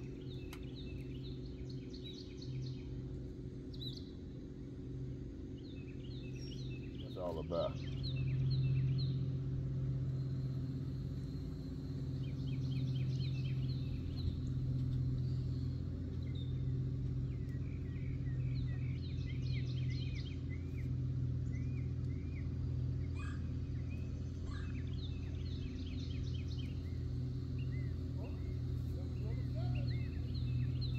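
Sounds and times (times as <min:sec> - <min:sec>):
low mechanical hum: 0:00.0 - 0:30.9
songbirds chirping: 0:00.0 - 0:30.9.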